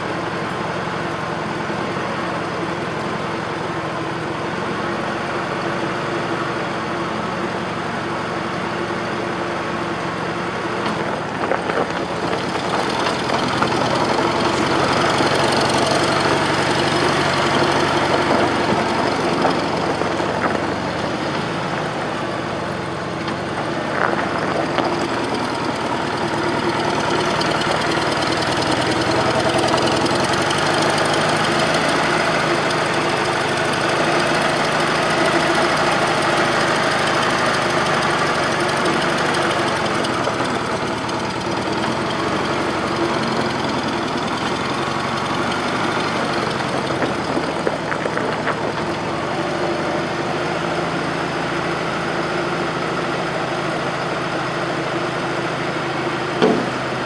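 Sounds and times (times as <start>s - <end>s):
loader gasoline engine running: 0.0s - 57.0s.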